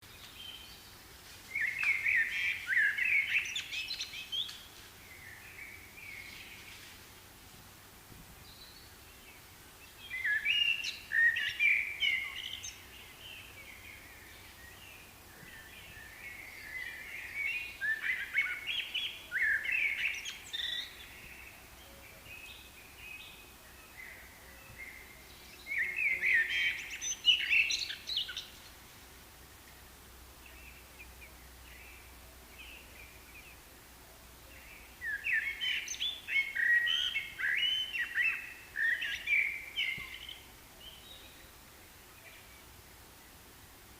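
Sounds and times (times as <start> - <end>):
birds chirping and twittering: 0.0 - 7.1, 8.4 - 29.0, 29.6 - 43.4.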